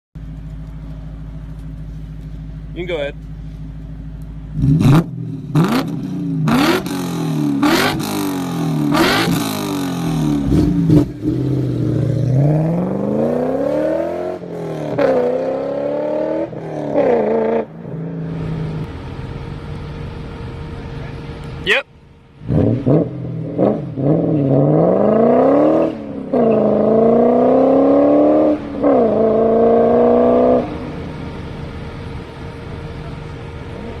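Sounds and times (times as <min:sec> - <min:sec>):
road hum: 0:00.1 - 0:34.0
car engine revving: 0:00.2 - 0:34.0.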